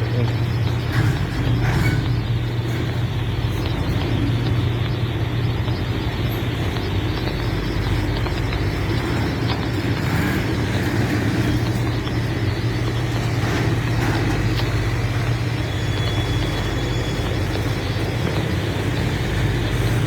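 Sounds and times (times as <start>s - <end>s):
constant low hum: 0.0s - 20.0s
freight train rumbling: 0.0s - 20.0s.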